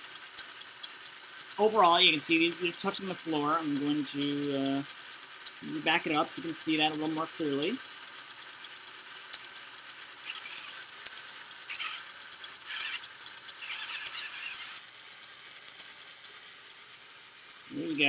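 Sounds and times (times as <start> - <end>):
drive motors whirring: 0.0 - 18.0
spinning drum high-pitched rattle: 0.0 - 18.0.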